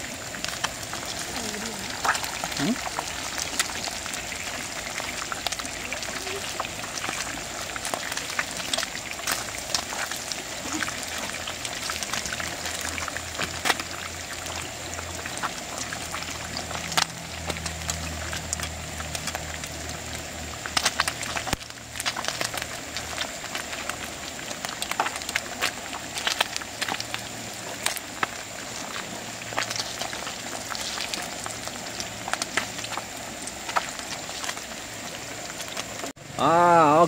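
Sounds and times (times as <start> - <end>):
fish deep-frying in hot oil: 0.0 - 37.0.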